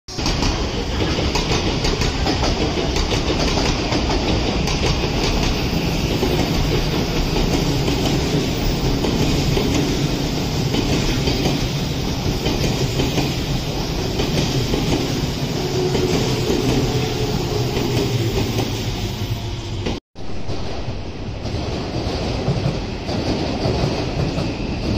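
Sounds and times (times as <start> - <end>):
electric trains passing on rails: 0.1 - 24.9.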